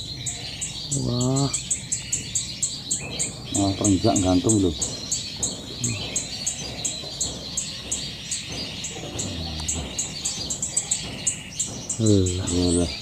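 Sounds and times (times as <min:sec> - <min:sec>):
bird chirping rapidly: 0:00.0 - 0:13.0
other bird calls: 0:00.0 - 0:13.0.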